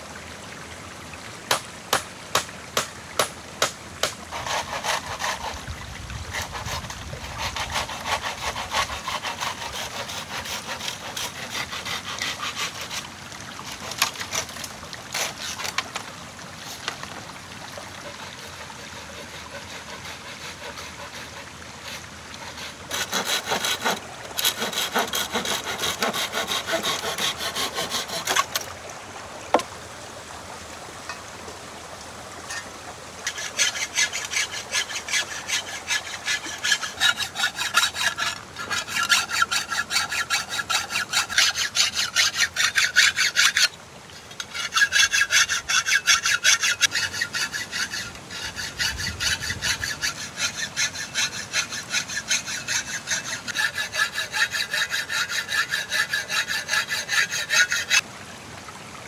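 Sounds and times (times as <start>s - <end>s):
hand saw cutting wood: 1.5s - 5.7s, 6.3s - 16.0s, 18.0s - 28.7s, 32.5s - 43.8s, 44.4s - 58.0s.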